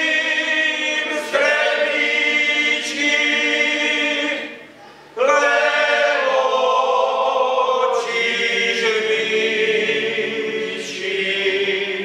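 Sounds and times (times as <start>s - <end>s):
men's choir singing a cappella: 0.0s - 12.0s.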